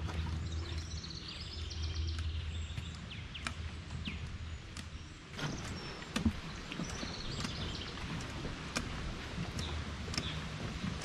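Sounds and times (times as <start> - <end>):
birds chirping: 0.0 - 11.0
footsteps on sandy trail: 0.0 - 11.0.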